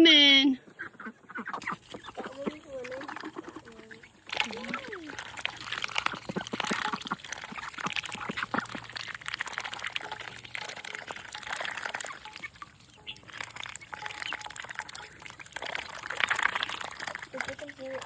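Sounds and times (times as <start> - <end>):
ducks dabbling in water: 0.6 - 18.0.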